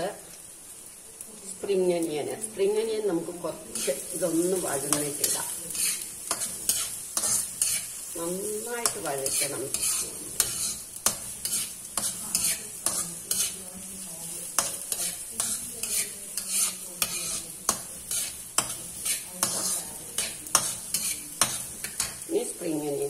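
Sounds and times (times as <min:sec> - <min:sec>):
vegetables sizzling in oil: 0:00.0 - 0:23.0
spatula scraping a wok: 0:03.2 - 0:23.0.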